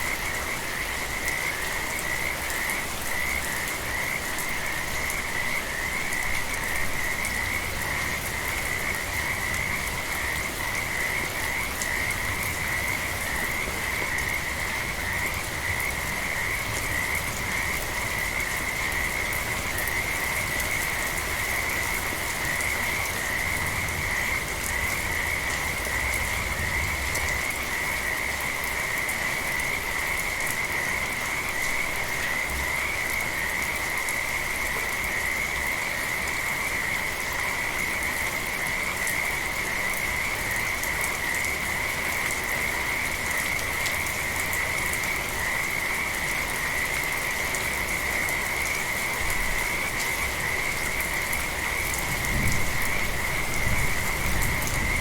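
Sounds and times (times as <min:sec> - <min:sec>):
frogs calling: 0:00.0 - 0:55.0
light rain patter: 0:00.0 - 0:55.0.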